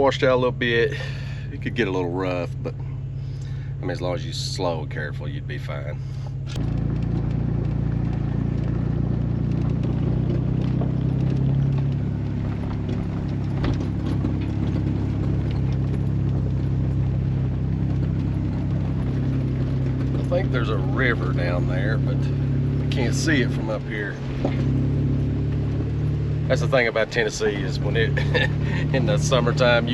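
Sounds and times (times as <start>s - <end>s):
low engine drone: 0.0s - 29.9s
tyres crunching on gravel: 4.6s - 29.9s.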